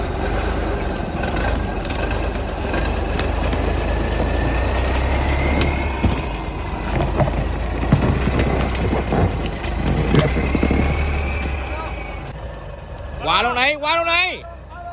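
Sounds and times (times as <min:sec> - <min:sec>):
engine clatter: 0:00.0 - 0:14.9
faint engine whine: 0:00.0 - 0:14.9
truck engine rumbling: 0:00.0 - 0:14.9.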